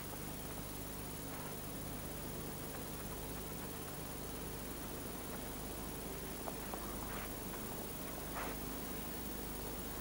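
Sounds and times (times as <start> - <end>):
videotape hiss and hum: 0.0 - 10.0.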